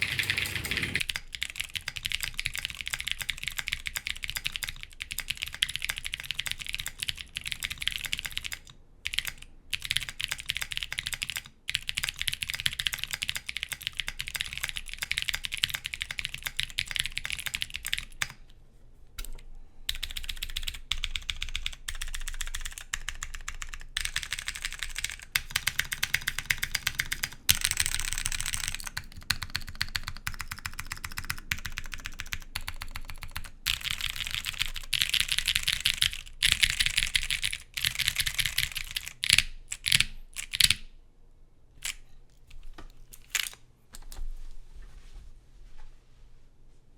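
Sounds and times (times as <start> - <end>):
mechanical keyboard typing: 0.0 - 18.4, 19.9 - 40.8, 43.1 - 43.6.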